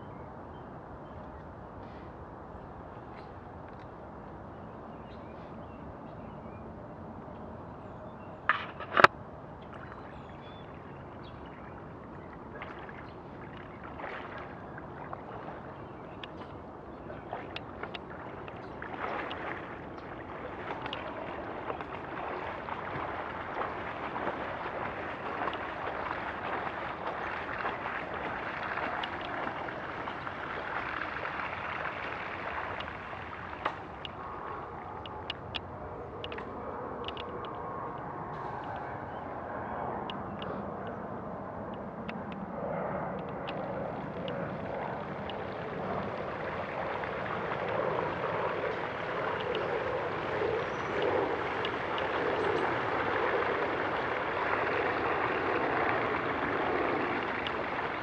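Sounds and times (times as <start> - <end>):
floodwater swishing and gurgling: 8.5 - 58.0.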